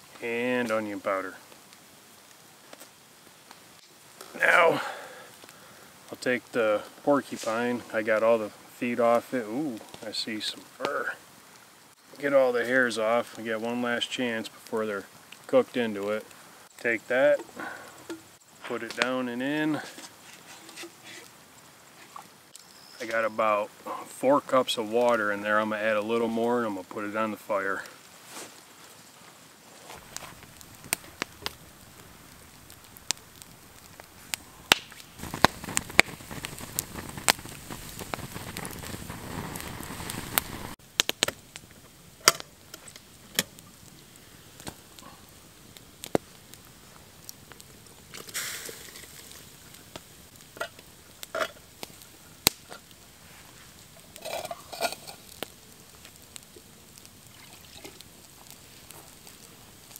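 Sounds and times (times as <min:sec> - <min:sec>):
campfire crackling and popping: 0:00.0 - 0:59.9
steady hiss: 0:00.0 - 0:59.9.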